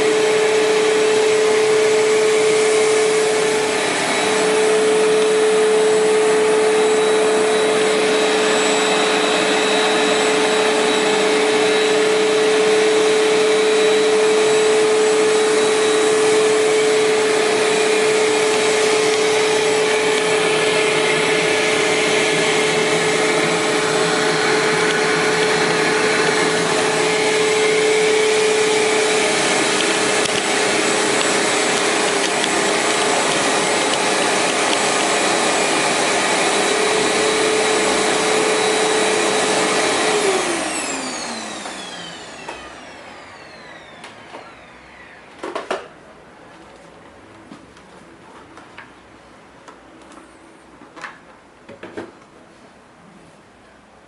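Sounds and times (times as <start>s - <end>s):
vacuum cleaner running: 0.0s - 46.6s.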